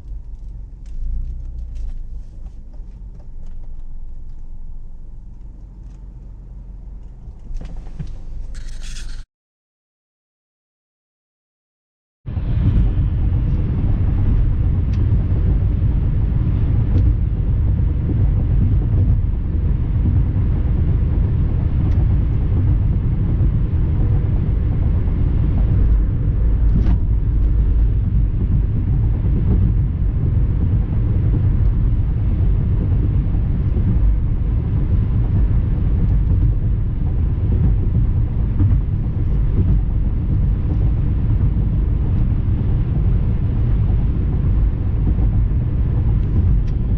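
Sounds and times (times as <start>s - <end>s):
car road and engine rumble: 0.0s - 9.2s, 12.3s - 46.9s.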